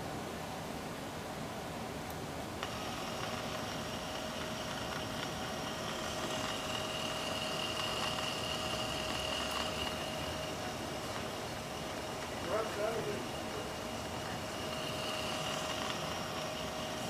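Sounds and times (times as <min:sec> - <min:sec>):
high-pitched whine: 0:02.6 - 0:17.0
streetcar running noise: 0:02.6 - 0:17.0.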